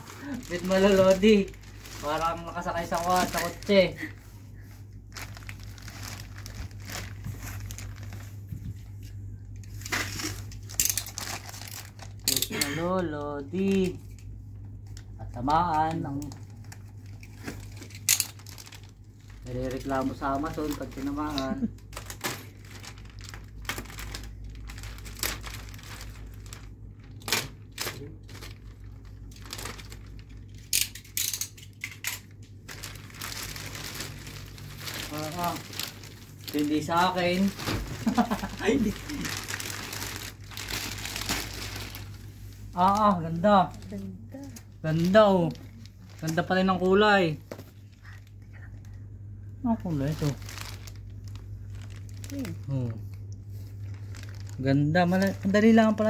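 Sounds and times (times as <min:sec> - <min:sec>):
plastic wrapping crinkling: 0:00.0 - 0:49.0, 0:49.6 - 0:56.0.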